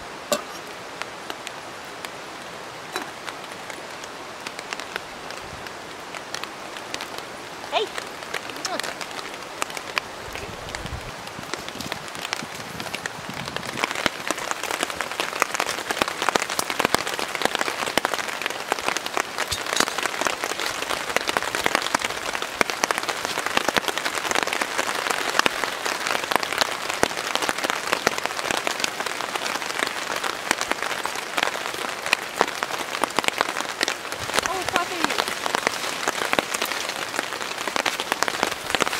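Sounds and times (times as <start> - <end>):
rain pattering on a tarp: 0.0 - 38.9.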